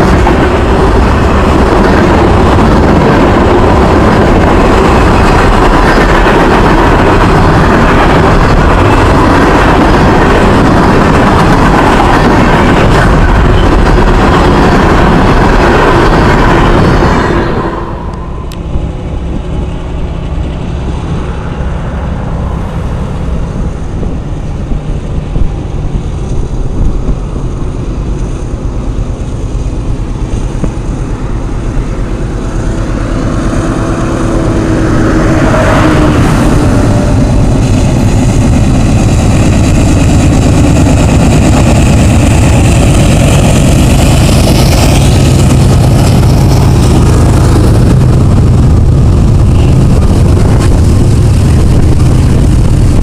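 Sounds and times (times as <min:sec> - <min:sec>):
diesel locomotive engines passing: 0:00.0 - 0:53.0
freight cars rolling on track: 0:00.0 - 0:53.0.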